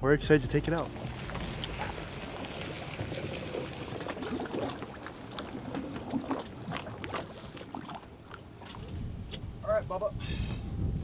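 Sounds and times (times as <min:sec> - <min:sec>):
water sloshing around boat hull: 0:00.6 - 0:09.6.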